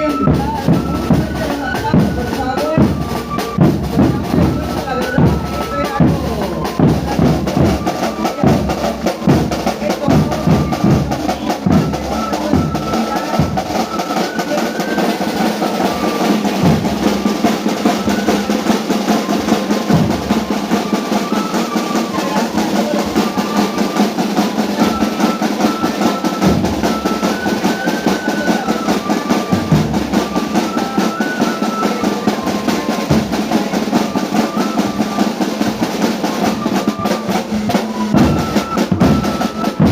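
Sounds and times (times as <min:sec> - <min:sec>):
snare drum rolls: 0:00.2 - 0:39.9.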